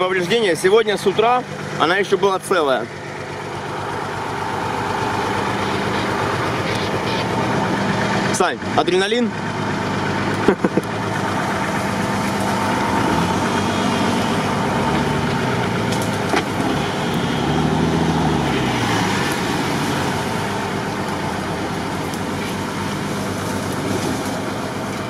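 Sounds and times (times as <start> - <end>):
engine idling and revving: 0.0 - 25.0.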